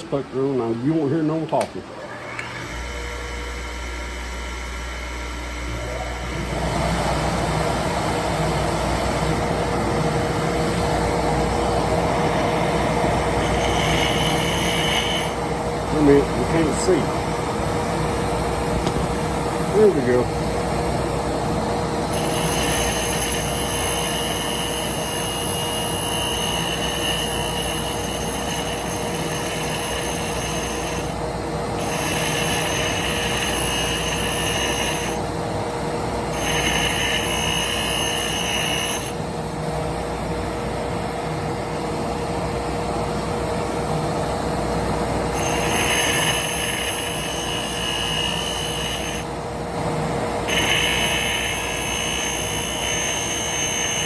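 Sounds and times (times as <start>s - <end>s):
dust collector and grinder drone: 0.0s - 39.2s, 44.5s - 54.0s
high-pitched grinding whine: 0.0s - 39.5s, 44.2s - 54.0s.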